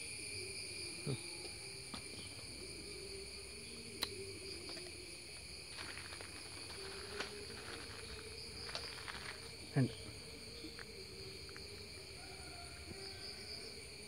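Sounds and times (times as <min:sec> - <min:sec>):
shrill chorus of crickets: 0:00.0 - 0:14.0.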